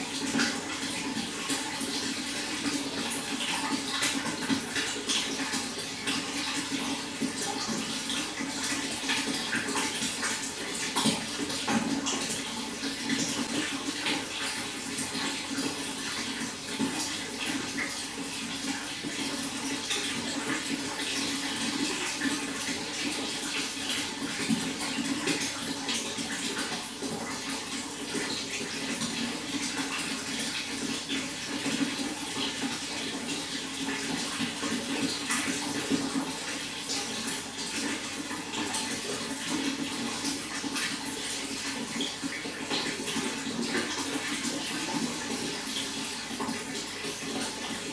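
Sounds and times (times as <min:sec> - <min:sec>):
running water: 0:00.0 - 0:47.9.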